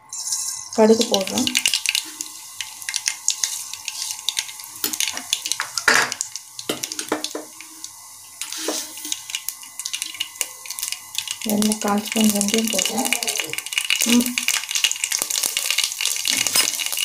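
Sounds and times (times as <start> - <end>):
seeds spluttering in hot oil: 0.0 - 17.0.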